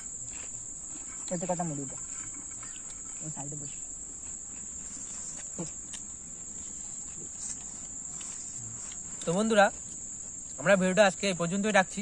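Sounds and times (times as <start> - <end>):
insects chirring: 0.0 - 12.0
voices: 0.0 - 12.0.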